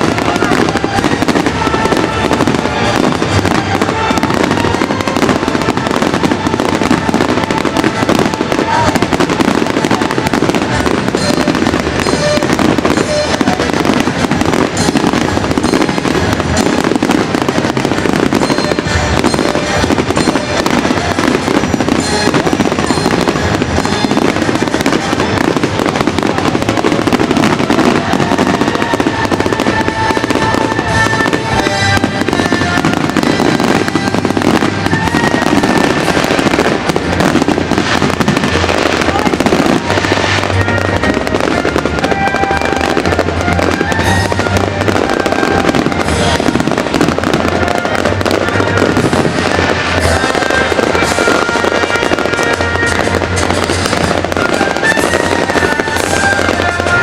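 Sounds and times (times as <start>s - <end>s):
fireworks crackling and popping: 0.0s - 57.0s
music playing: 0.0s - 57.0s.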